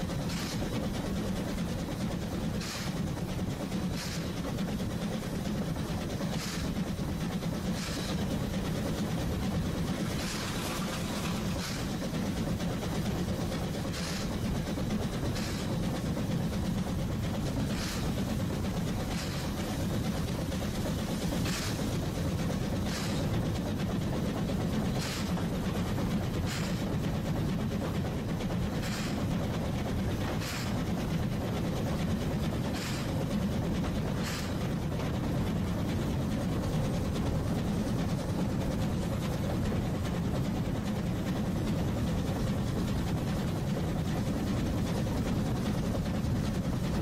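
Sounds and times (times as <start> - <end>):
train rumbling: 0.0 - 47.0
train wheels clacking: 0.0 - 47.0.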